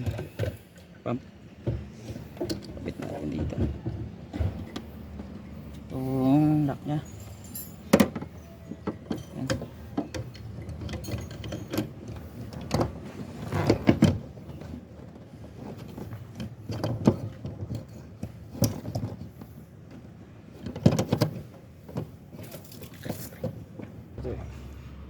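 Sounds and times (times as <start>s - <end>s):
clicks and knocks of handled parts: 1.6s - 6.0s, 7.0s - 24.5s.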